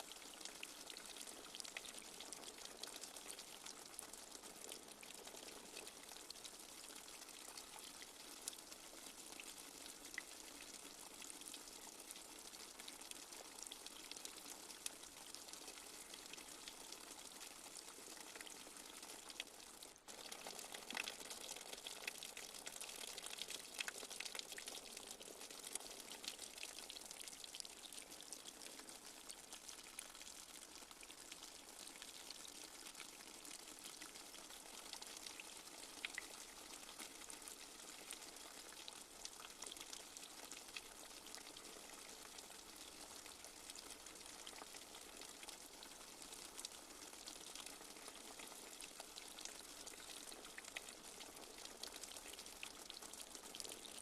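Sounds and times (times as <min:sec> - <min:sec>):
light rain falling: 0:00.0 - 0:54.0.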